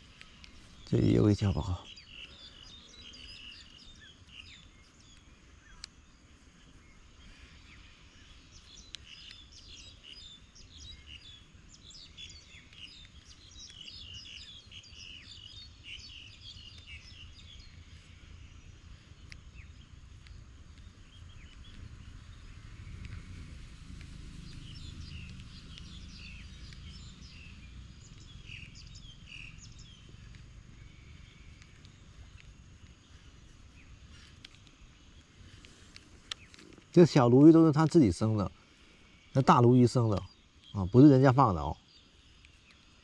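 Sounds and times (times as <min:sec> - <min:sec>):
birds chirping: 0:00.0 - 0:43.0
low wind rumble: 0:00.0 - 0:43.0.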